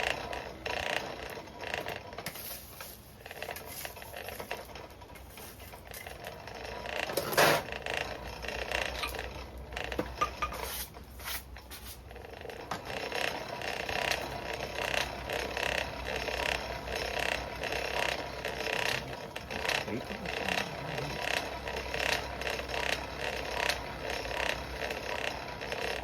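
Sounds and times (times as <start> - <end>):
forge blower whirring: 0.0 - 26.0.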